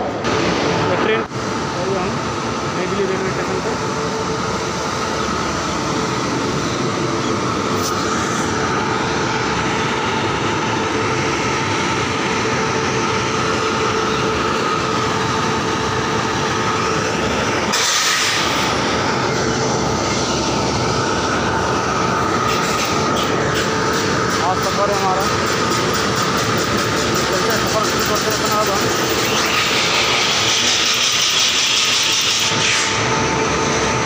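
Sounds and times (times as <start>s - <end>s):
train wheels rumbling on track: 0.0s - 32.6s
rush of noise: 0.0s - 34.0s.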